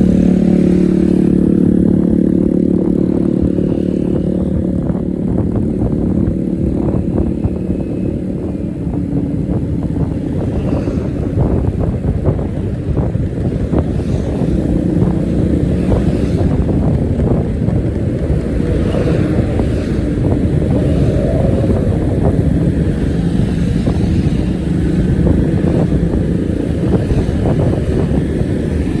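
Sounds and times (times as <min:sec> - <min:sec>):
bus engine rumbling: 0:00.0 - 0:29.0.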